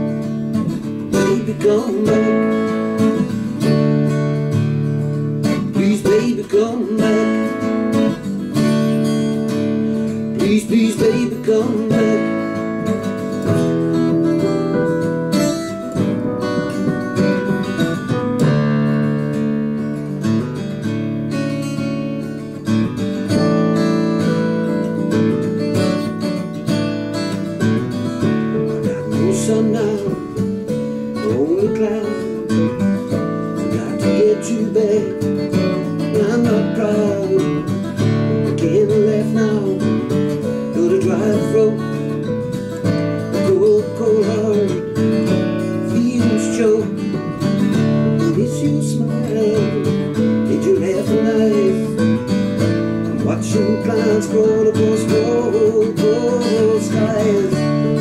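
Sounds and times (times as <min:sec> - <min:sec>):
acoustic guitar strumming: 0:00.0 - 0:58.0
electronic keyboard chords: 0:00.0 - 0:58.0.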